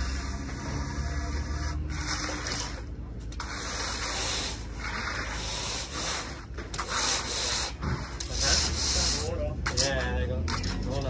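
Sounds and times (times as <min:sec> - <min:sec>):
hand floats scraping wet concrete: 0:00.0 - 0:11.0.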